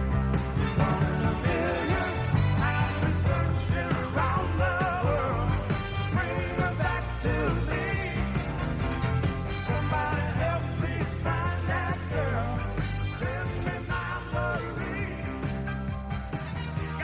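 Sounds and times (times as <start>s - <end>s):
rock song: 0.0s - 17.0s.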